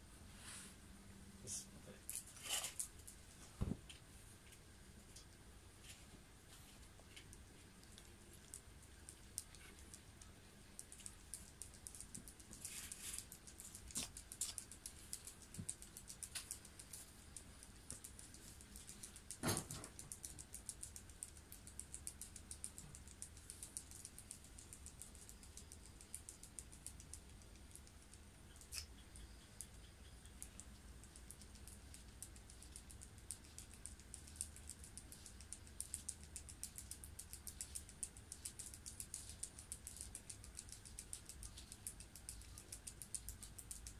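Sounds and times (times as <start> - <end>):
small clicks and taps: 2.0 - 43.9.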